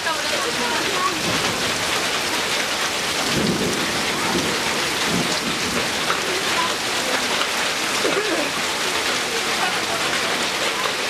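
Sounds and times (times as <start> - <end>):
heavy rain on trees and lawn: 0.0 - 11.0.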